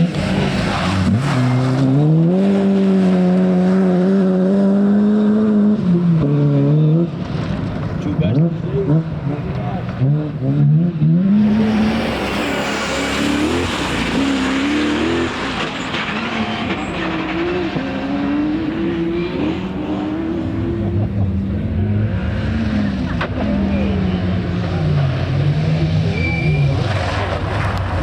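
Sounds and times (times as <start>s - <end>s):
rally car engine revving: 0.0s - 28.0s
tyre and road noise: 0.0s - 28.0s.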